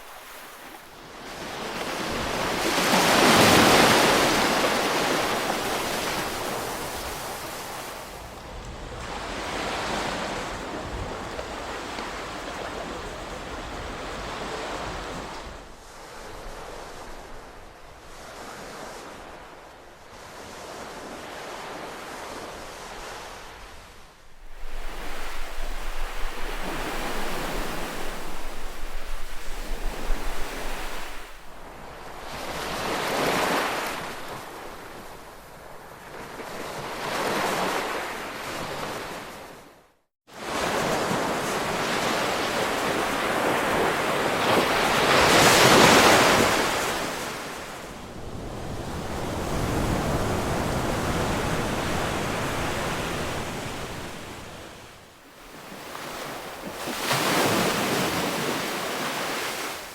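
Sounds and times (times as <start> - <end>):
ocean waves washing in: 0.0 - 39.4, 40.3 - 59.9.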